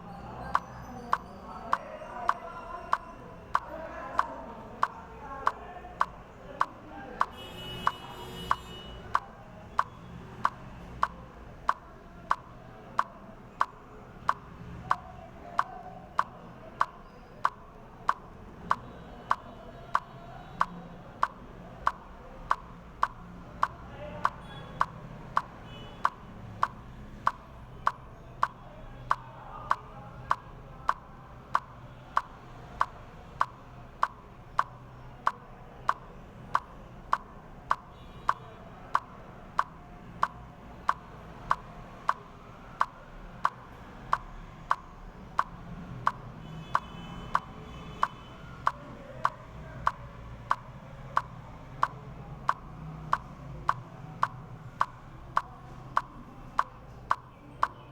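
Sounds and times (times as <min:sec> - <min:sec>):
steady sharp ticking: 0:00.0 - 0:57.9.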